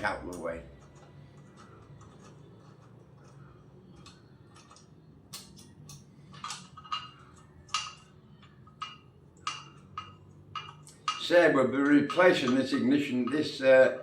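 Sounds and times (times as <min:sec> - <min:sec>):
low workshop hum: 0:00.0 - 0:14.0
metallic clicks and clinks: 0:00.8 - 0:13.7.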